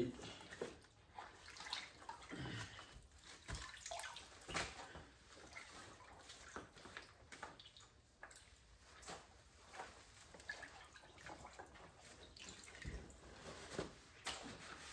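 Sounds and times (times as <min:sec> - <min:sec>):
water splashing and dripping: 0:00.3 - 0:13.2.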